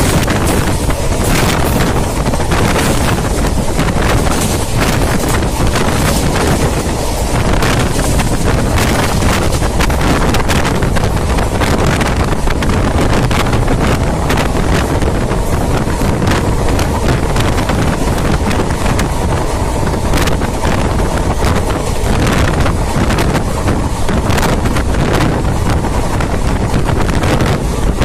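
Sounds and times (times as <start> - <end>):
train low rumble: 0.0 - 28.0
train wheels clicking on track: 0.0 - 28.0
wind buffeting microphone: 0.0 - 28.0.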